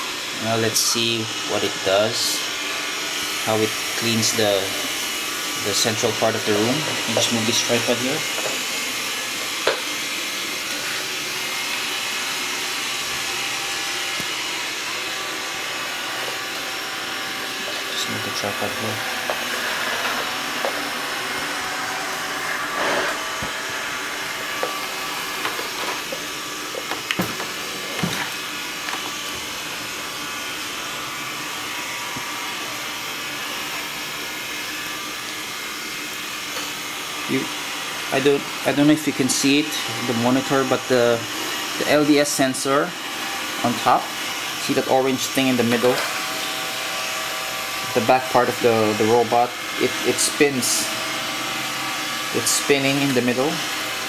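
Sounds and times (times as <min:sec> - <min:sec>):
robot vacuum whirring: 0:00.0 - 0:54.0.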